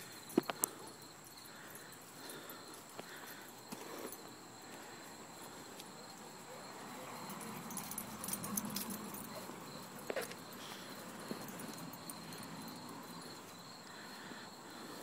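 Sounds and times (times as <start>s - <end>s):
collar tags clinking: 0.0s - 14.1s.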